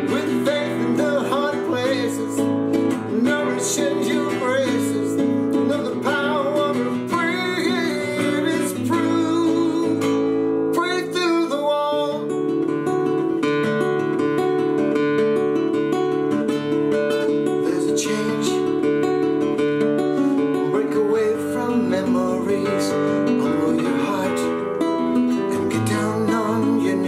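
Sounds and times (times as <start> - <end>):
man singing: 0.0 - 13.4, 17.1 - 27.0
guitar strumming: 0.0 - 27.0.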